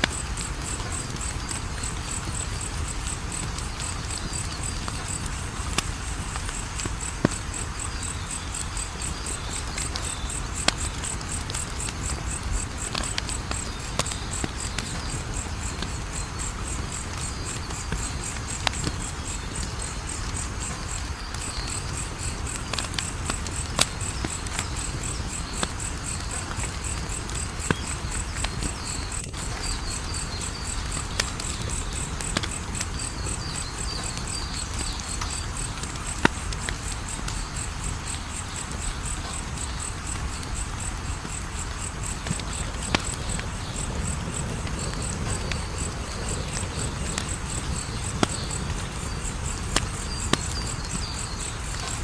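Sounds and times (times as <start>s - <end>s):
crickets chirping: 0.0s - 52.0s
low rumbling hiss: 0.0s - 52.0s
wood fire crackling and popping: 0.0s - 52.0s.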